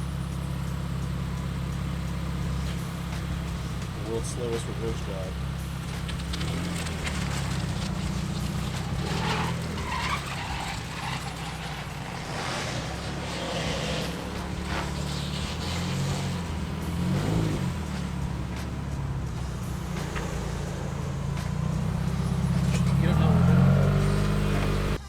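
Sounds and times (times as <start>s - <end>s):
car engine at low revs: 0.0s - 25.0s
intermittent crackle: 0.0s - 25.0s.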